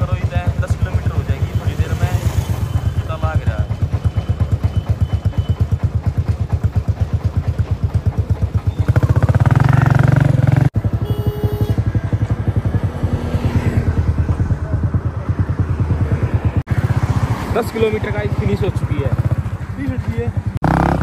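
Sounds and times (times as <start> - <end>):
motorcycle engine puttering: 0.0 - 21.0.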